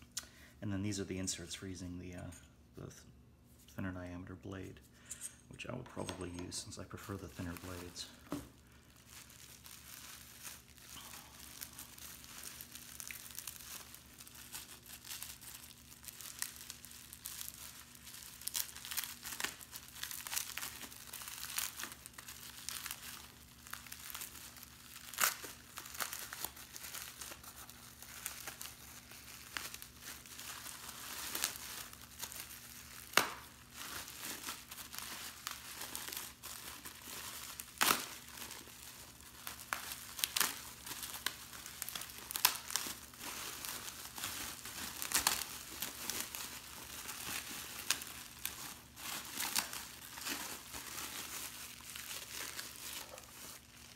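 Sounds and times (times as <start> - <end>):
bubble wrap crinkling and crackling: 3.5 - 53.9.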